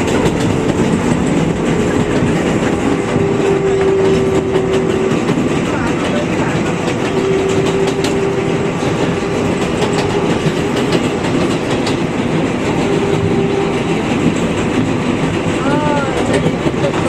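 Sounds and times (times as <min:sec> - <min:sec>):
train wheels rumbling on rails: 0:00.0 - 0:17.0
train whine: 0:00.0 - 0:17.0.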